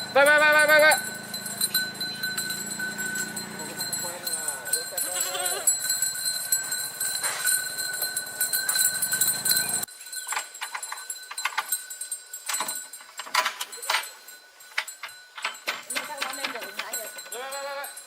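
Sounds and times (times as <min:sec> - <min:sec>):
goat hooves clattering: 0:00.0 - 0:18.0.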